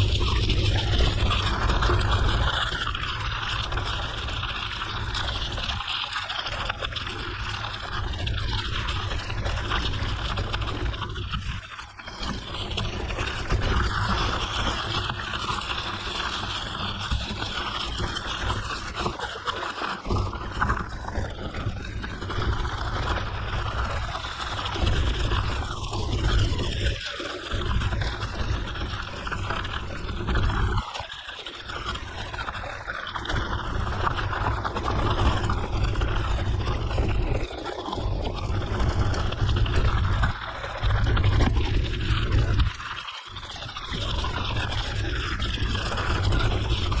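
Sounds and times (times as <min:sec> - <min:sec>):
wind rumbling on microphone: 0:00.0 - 0:05.9, 0:06.5 - 0:47.0.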